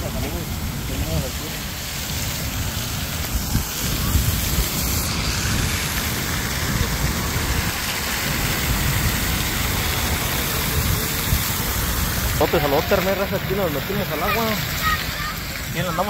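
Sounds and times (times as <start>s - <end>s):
fountain jets splattering on paving: 0.0s - 16.0s
low uneven rumble: 0.0s - 16.0s.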